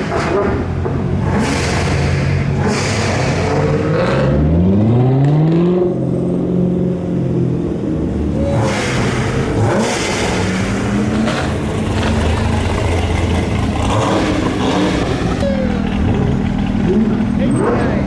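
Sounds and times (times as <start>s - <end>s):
cars rushing past: 0.0s - 18.0s
supercar engine revving: 0.0s - 18.0s.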